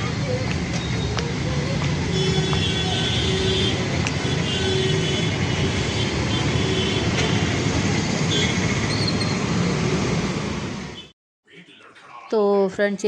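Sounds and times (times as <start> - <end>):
road traffic rumble: 0.0 - 12.2.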